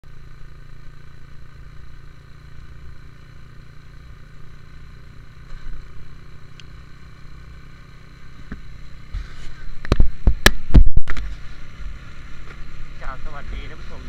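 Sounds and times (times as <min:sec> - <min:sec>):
vehicle driving drone: 0:00.0 - 0:14.0.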